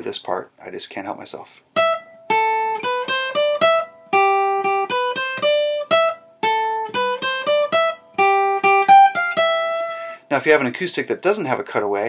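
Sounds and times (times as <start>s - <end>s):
acoustic guitar melody riff: 1.6s - 11.6s.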